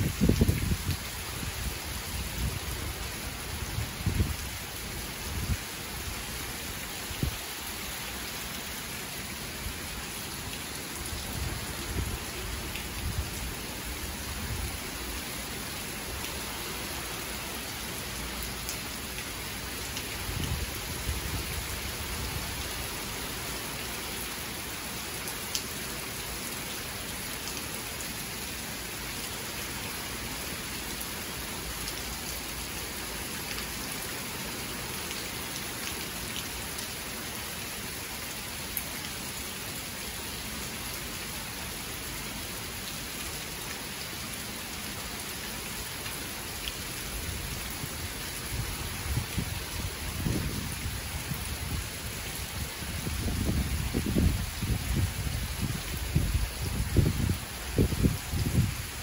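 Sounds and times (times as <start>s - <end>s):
heavy rain on lawn and roof: 0.0s - 59.0s.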